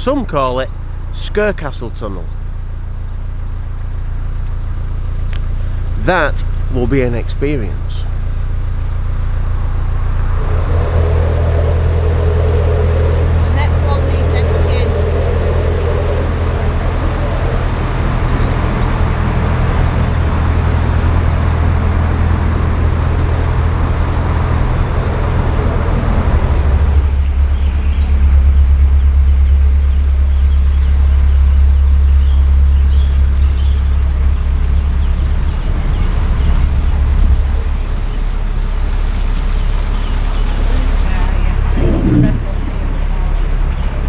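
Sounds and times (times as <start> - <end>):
diesel boat engine running: 0.0 - 44.0.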